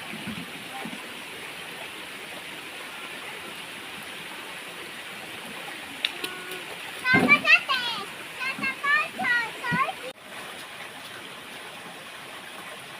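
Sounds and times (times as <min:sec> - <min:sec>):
stream water rushing: 0:00.0 - 0:12.9.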